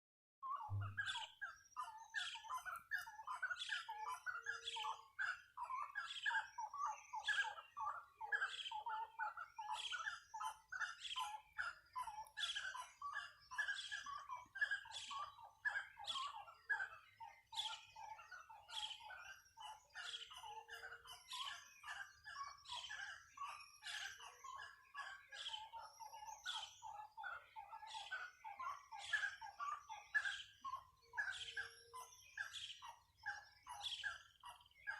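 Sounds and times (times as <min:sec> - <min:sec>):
forest birds chirping: 0:00.4 - 0:34.9.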